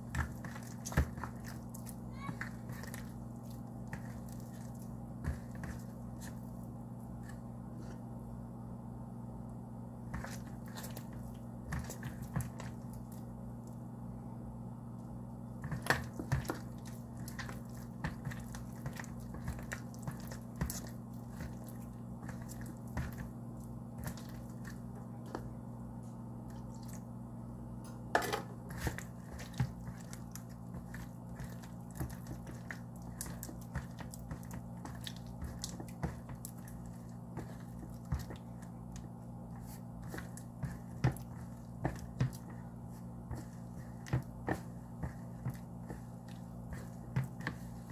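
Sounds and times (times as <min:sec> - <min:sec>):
hand squishing wet dough: 0:00.0 - 0:08.0, 0:10.0 - 0:14.0, 0:14.8 - 0:27.3, 0:28.6 - 0:47.9
steady low hum: 0:00.0 - 0:47.9.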